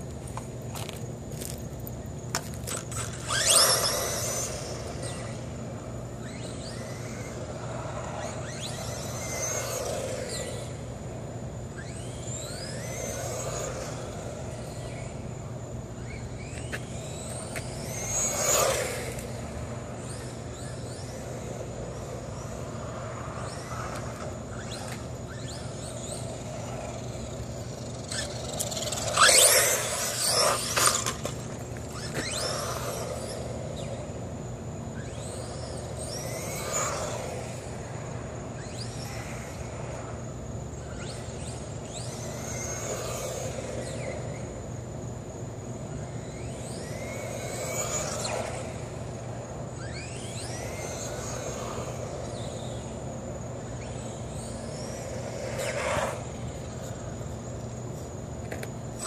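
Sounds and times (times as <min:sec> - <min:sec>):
rc car electric motor whining: 0:02.3 - 0:59.0.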